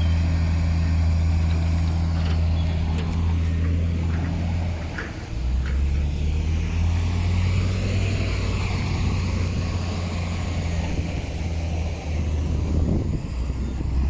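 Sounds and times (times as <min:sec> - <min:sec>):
heavy diesel engine droning: 0:00.0 - 0:14.0.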